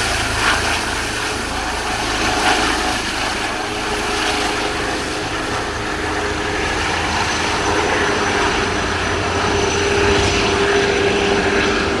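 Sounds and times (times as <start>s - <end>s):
helicopter rotors rushing: 0.0s - 12.0s
helicopter turbine whine: 0.0s - 12.0s.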